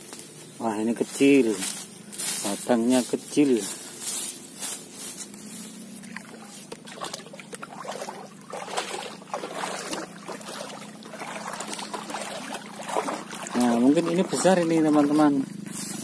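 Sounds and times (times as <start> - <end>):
footsteps through grass and weeds: 0.0 - 16.0
steady low hum: 0.0 - 16.0.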